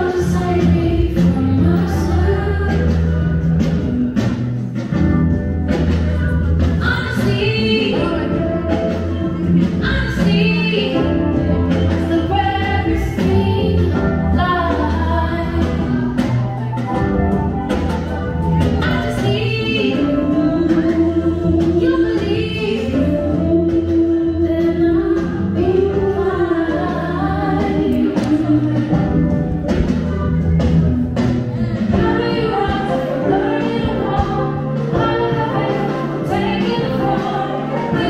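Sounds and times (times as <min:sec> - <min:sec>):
woman singing: 0:00.0 - 0:04.2, 0:05.7 - 0:30.6, 0:31.2 - 0:38.0
steady bass line: 0:00.0 - 0:38.0.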